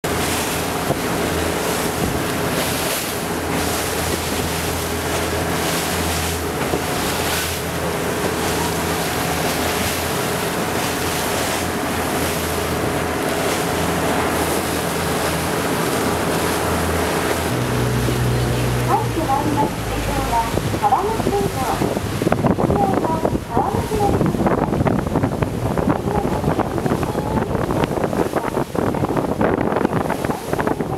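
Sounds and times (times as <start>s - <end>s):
boat engine humming: 0.0s - 30.9s
water noise: 0.0s - 30.9s
wind buffeting microphone: 0.0s - 30.9s.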